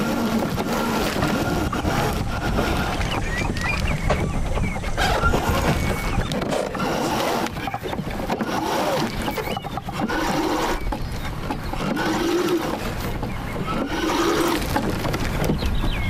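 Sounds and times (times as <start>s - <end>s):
water moving along hull: 0.0s - 16.0s
wind buffeting microphone: 0.0s - 16.0s.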